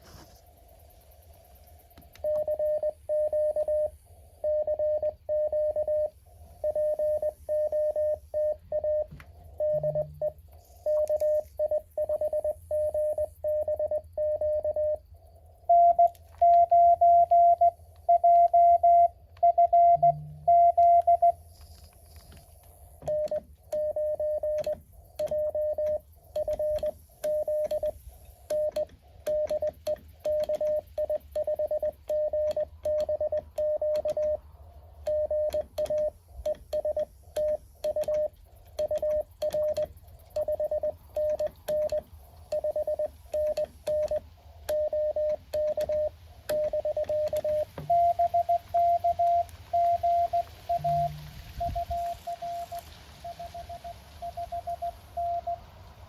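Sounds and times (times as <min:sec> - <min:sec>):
morse code tone: 0:02.2 - 0:15.0, 0:15.6 - 0:21.4, 0:23.0 - 0:34.4, 0:35.1 - 0:56.0
higher-pitched morse code signal: 0:02.2 - 0:21.8, 0:23.0 - 0:34.4, 0:35.0 - 0:56.0.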